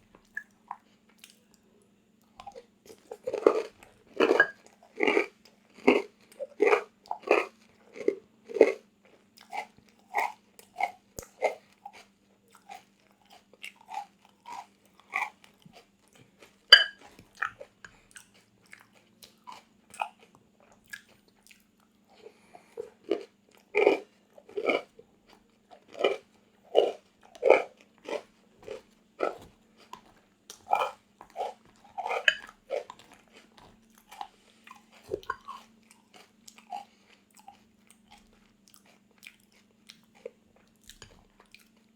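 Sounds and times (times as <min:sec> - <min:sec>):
person chewing crisp food: 0:00.0 - 0:41.9.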